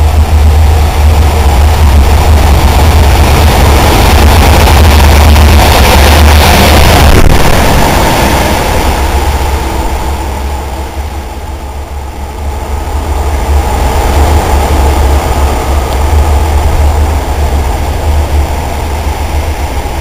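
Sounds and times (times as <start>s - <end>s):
locomotive engine rumble echoing: 0.0s - 20.0s.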